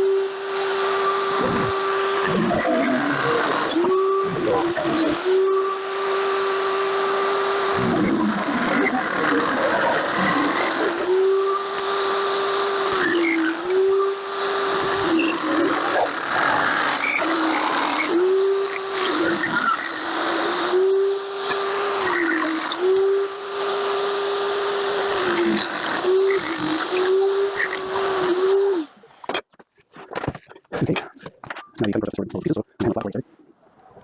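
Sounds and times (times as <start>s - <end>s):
power tool cutting sheet steel: 0.0s - 29.1s.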